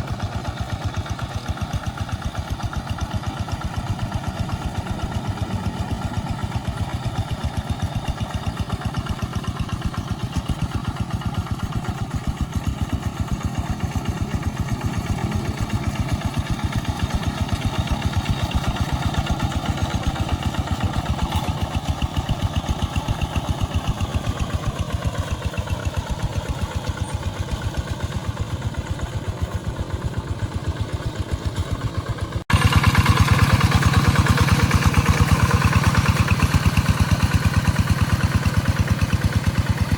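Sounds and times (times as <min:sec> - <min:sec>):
tractor diesel engine chugging: 0:00.0 - 0:39.9.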